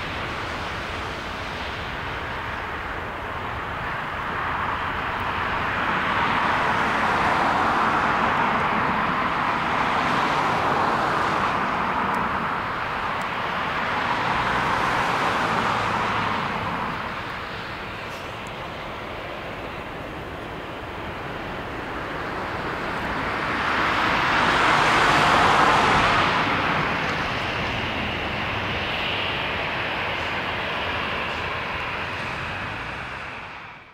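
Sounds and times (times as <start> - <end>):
distant jet engine roar: 0.0 - 33.9.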